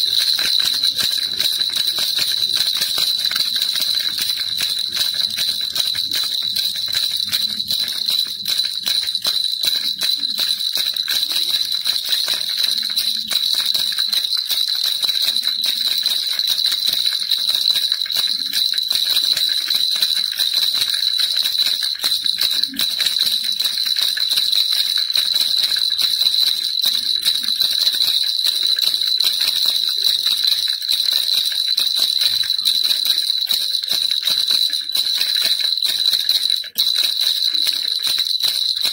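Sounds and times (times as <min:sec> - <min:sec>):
baby rattle jingling: 0:00.0 - 0:38.9.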